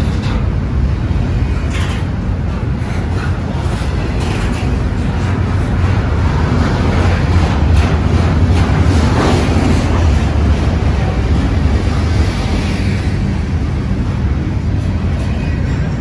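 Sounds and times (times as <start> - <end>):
freight train rumbling past: 0.0 - 16.0
wheels on rail: 0.0 - 16.0.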